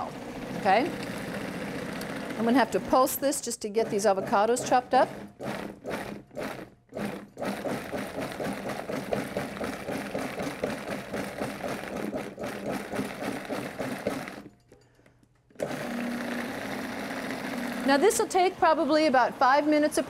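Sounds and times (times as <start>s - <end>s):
food processor chopping: 0.0s - 14.5s, 15.6s - 18.0s.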